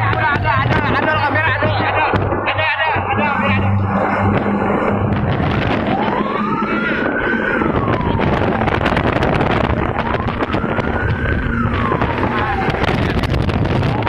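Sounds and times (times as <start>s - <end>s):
fire truck siren wailing: 0.0s - 14.0s
wind rushing over microphone: 0.0s - 14.0s.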